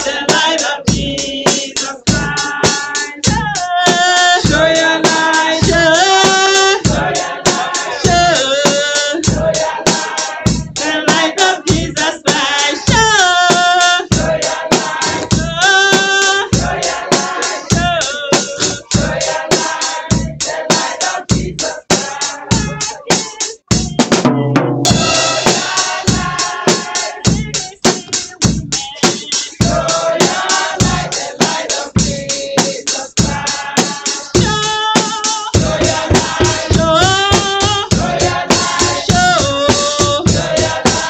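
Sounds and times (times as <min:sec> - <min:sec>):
fast drum beat: 0:00.0 - 0:41.0
women singing gospel song: 0:00.0 - 0:41.0.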